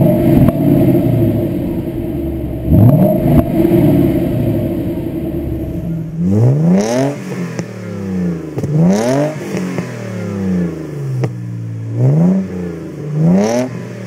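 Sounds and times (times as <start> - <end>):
car engine revving: 0.0 - 14.0
car engine rumbling: 0.0 - 14.0.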